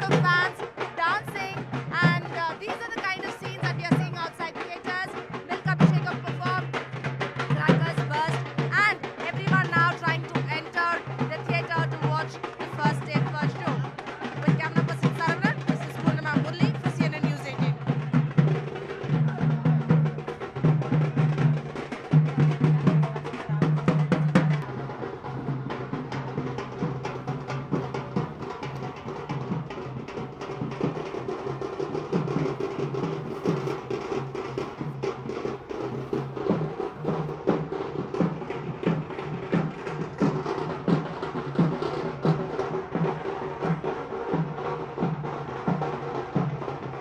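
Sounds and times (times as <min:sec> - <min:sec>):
drums playing fast rhythm: 0:00.0 - 0:47.0.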